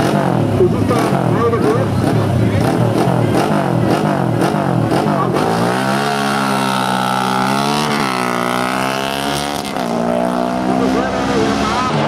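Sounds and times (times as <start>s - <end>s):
racing motorcycle engine revving: 0.0s - 12.0s.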